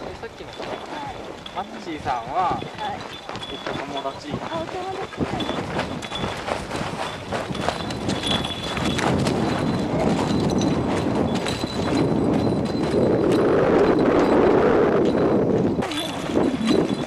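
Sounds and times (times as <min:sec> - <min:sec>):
footsteps sliding on loose scree: 0:00.0 - 0:14.4.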